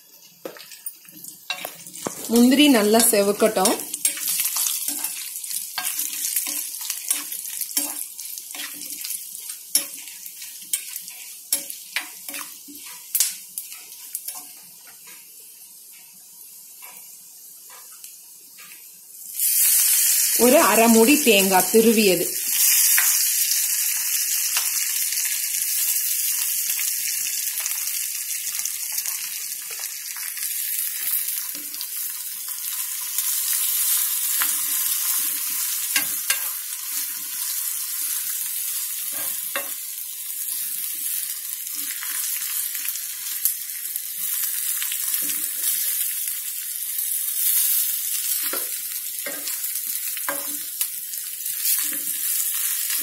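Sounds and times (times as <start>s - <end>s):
coconut sizzling in oil: 0.0s - 53.0s.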